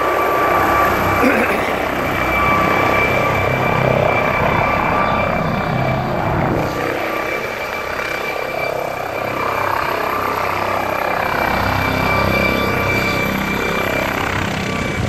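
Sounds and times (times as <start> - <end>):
helicopter rotor: 0.0 - 15.0.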